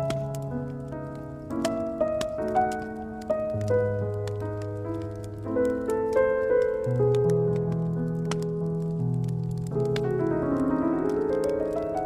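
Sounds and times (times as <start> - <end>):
slow solo piano music: 0.0 - 12.0
wood fire crackling: 0.0 - 12.0.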